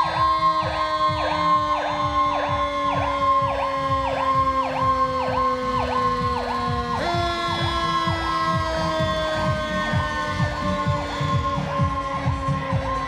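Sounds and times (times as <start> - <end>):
electronic siren: 0.0 - 13.0
low tone sliding down: 0.0 - 13.0.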